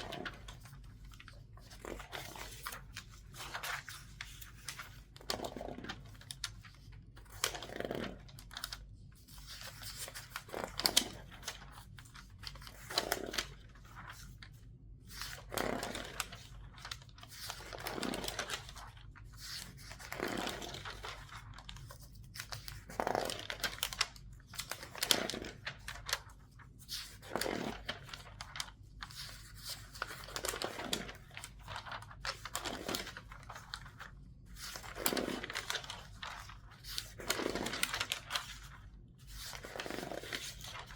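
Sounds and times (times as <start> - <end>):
newspaper pages turning: 0.0 - 40.9.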